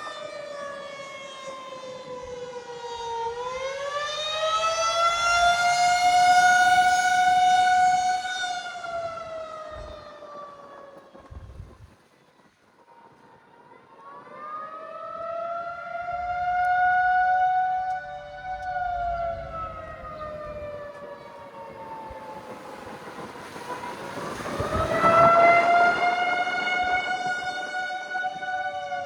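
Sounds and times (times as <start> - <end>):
tornado warning siren: 0.0 - 29.0.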